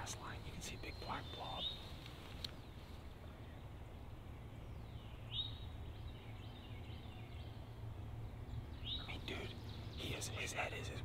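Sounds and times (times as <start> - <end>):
low background rumble: 0.0 - 11.0
small birds chirping: 0.0 - 11.0.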